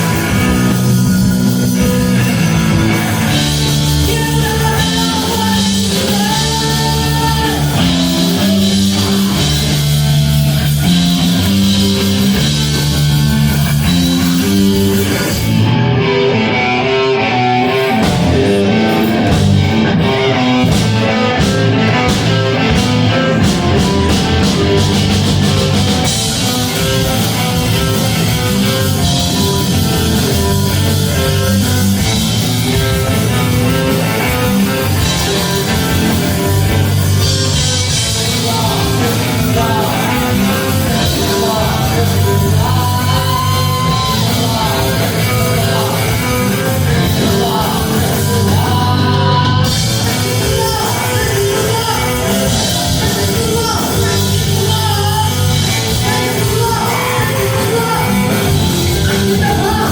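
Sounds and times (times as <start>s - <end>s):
singer holding long notes: 0.0s - 13.5s, 14.1s - 59.9s
heavy metal band playing: 0.0s - 59.9s.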